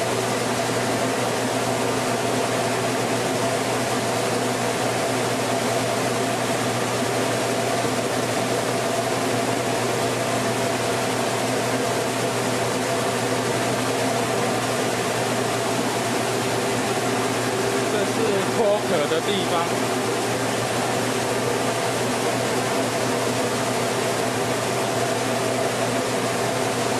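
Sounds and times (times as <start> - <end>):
rice mill running: 0.0 - 26.9.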